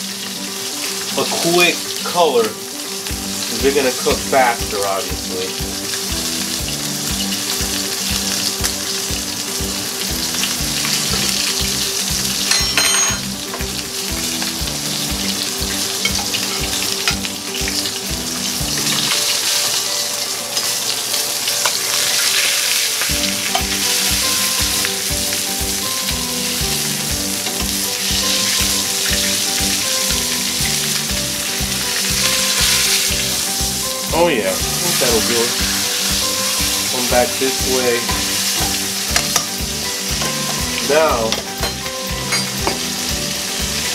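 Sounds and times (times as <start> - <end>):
background music with beat: 0.0 - 20.6, 21.4 - 43.9
meat sizzling in oil: 0.0 - 43.9.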